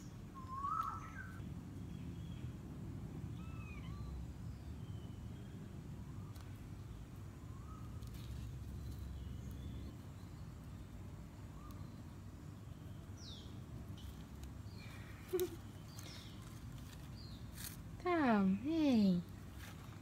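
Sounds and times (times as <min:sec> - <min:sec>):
faint bird chirps: 0:00.0 - 0:02.5, 0:03.3 - 0:17.4.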